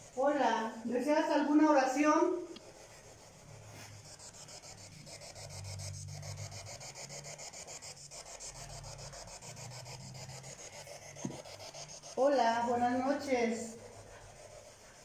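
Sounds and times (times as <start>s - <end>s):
fast pulsing hiss: 0.0s - 1.0s, 2.8s - 15.0s.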